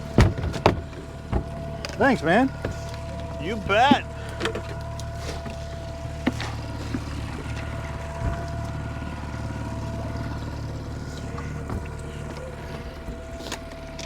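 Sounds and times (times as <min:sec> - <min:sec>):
faint knocks on boat: 0:00.0 - 0:04.8, 0:05.4 - 0:13.9
boat motor humming: 0:00.0 - 0:14.0.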